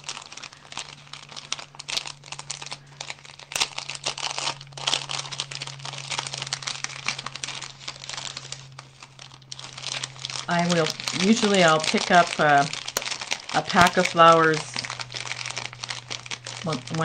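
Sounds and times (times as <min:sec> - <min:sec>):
plastic wrapping crinkling: 0:00.0 - 0:17.0
steady low hum: 0:00.0 - 0:17.0.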